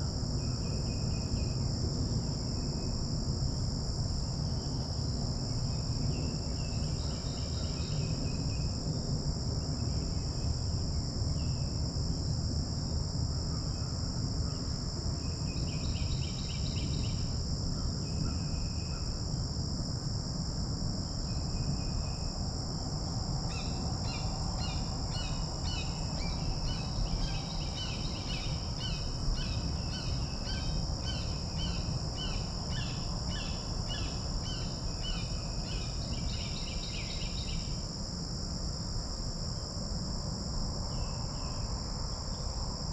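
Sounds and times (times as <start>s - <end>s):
high insect trill: 0.0s - 42.9s.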